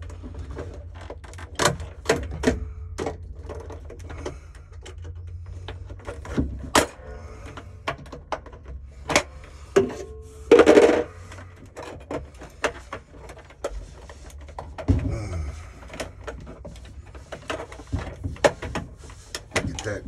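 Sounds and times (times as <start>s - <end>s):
steady low hum: 0.0s - 20.0s
tools clicking and knocking: 0.0s - 20.0s.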